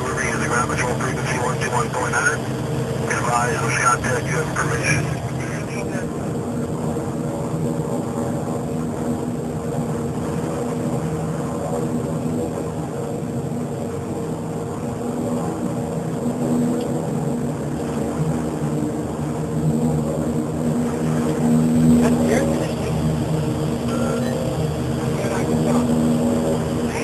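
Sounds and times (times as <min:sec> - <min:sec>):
propeller airplane engines droning: 0:00.0 - 0:27.0.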